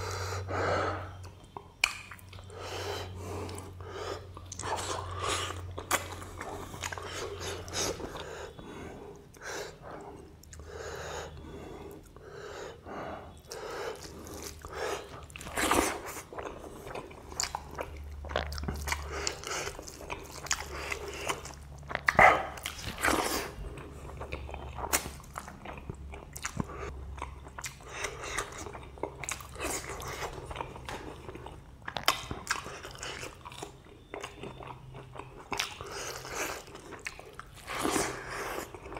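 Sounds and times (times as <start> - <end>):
faint low hum: 0.0 - 38.9
chewing and lip-smacking: 1.2 - 8.6, 9.2 - 12.3, 13.3 - 38.9.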